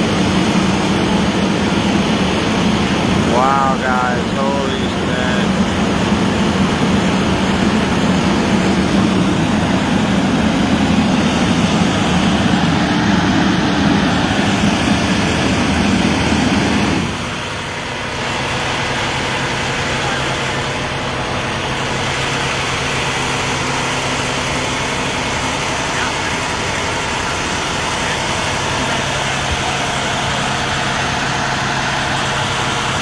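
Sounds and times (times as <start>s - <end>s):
heavy vehicle engine idling: 0.0s - 33.0s.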